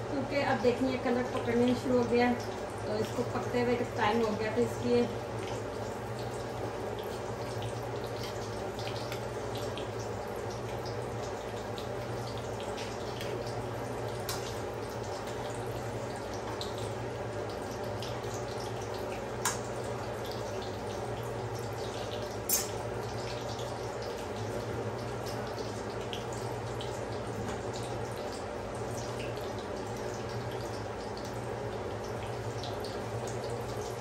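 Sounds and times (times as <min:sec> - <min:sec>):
oil sizzling with pops: 0:00.0 - 0:34.0.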